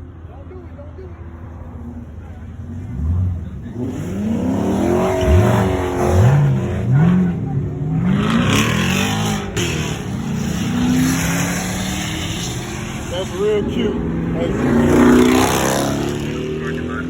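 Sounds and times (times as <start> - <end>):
car engine revving hard: 2.7 - 17.0.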